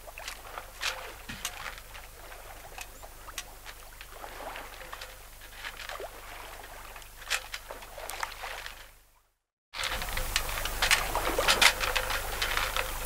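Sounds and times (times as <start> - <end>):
water slapping against hull: 0.0 - 9.0, 9.8 - 13.0.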